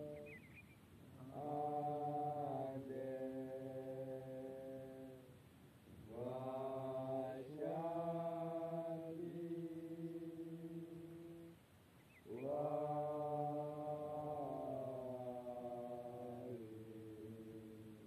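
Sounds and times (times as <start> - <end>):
chanting in long held notes: 0.0 - 0.5, 1.2 - 5.4, 6.0 - 11.6, 12.2 - 18.0.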